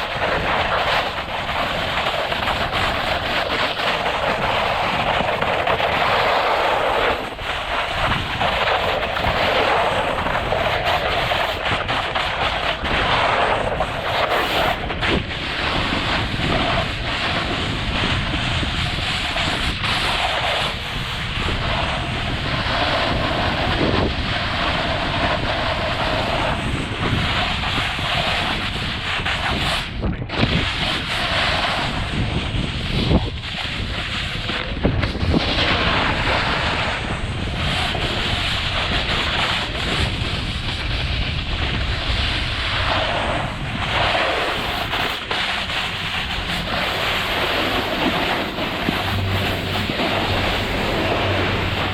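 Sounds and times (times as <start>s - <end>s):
skis scraping on packed snow: 0.0s - 51.9s
wind buffeting microphone: 0.0s - 51.9s.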